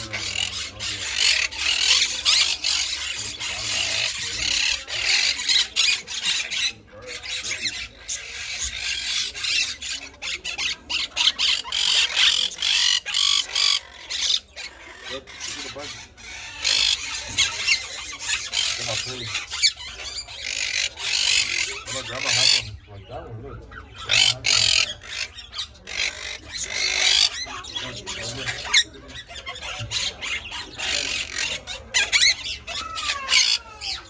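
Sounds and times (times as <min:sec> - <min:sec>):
parrots chattering and screeching: 0:00.0 - 0:34.0.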